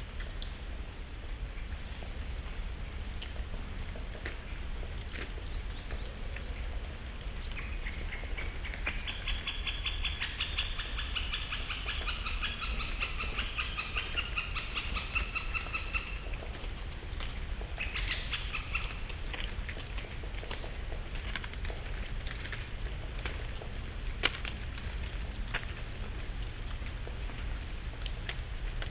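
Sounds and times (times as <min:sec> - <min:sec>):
falling leaves ticking: 0:00.0 - 0:28.9.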